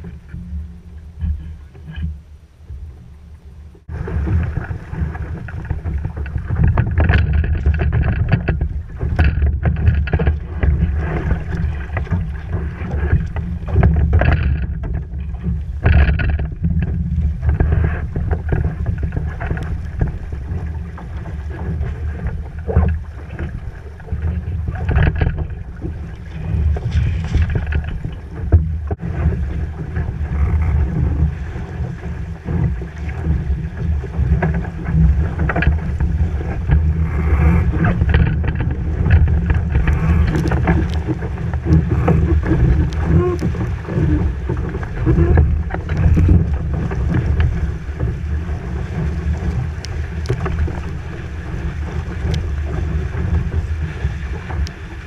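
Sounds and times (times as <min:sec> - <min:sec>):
water splashing against hull: 0:00.0 - 0:55.0
wind buffeting microphone: 0:00.0 - 0:55.0.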